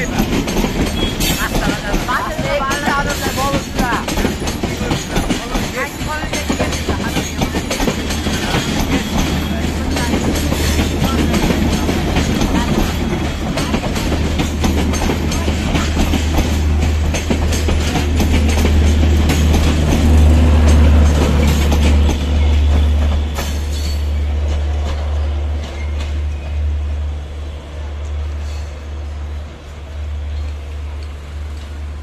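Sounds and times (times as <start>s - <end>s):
train wheels clattering over rail joints: 0.0s - 26.6s.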